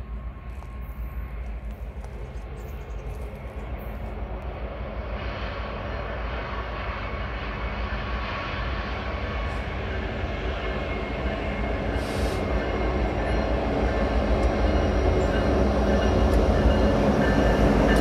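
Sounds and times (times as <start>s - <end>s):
diesel locomotive engine drone: 0.0s - 18.0s.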